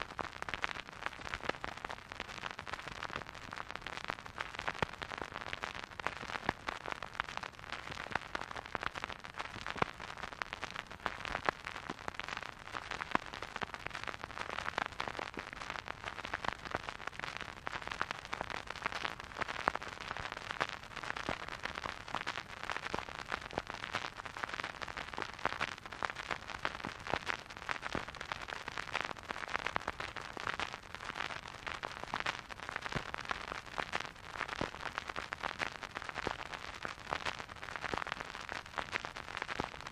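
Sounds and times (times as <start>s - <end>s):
vinyl crackles and pops: 0.0s - 39.9s.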